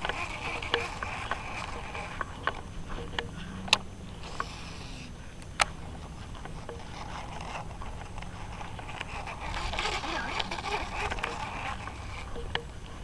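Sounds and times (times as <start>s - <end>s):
fishing reel clicks: 0.0s - 5.7s, 6.6s - 12.7s
faint hiss: 0.0s - 13.0s.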